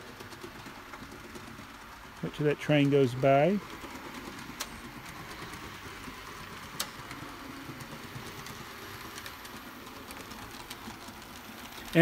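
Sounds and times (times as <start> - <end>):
model train whirring on track: 0.0 - 12.0.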